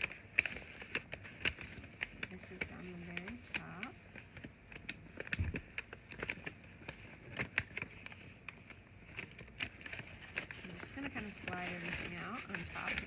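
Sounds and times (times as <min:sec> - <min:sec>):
packaging rustling and clicking: 0:00.0 - 0:13.0.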